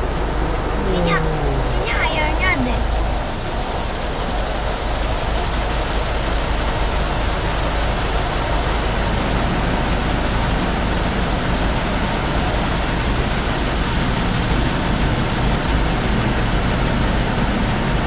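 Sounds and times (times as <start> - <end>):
water jets spraying car: 0.0 - 18.0.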